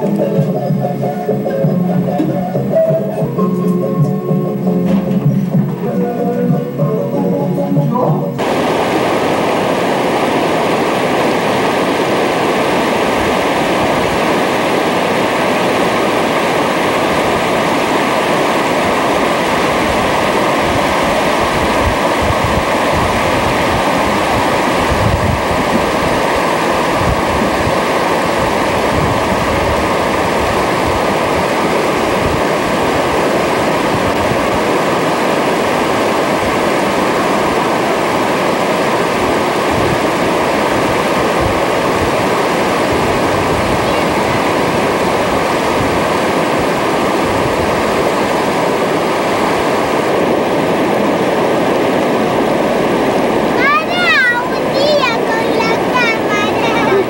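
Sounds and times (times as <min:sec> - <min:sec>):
river rushing over rocks: 0:08.4 - 0:57.0
wind buffeting microphone: 0:08.4 - 0:57.0.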